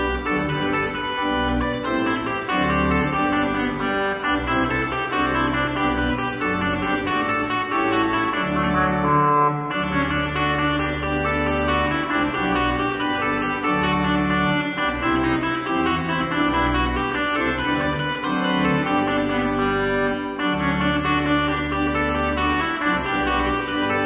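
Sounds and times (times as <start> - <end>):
organ chords: 0.0 - 24.0.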